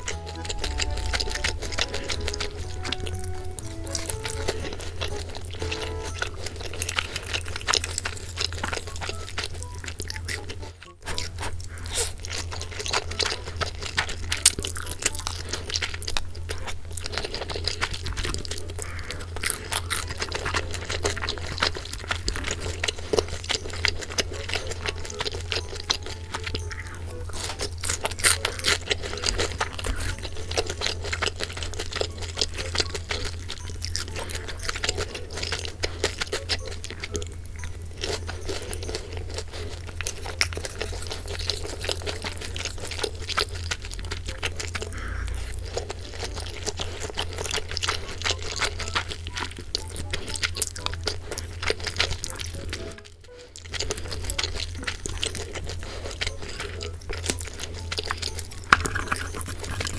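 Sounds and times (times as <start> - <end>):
crunching and chewing fried chicken: 0.0 - 59.9.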